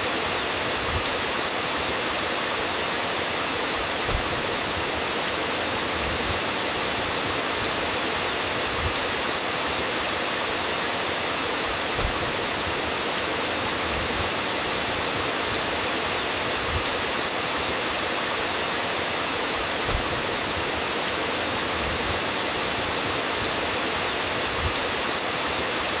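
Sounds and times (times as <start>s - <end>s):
dense rain hissing: 0.0s - 26.0s.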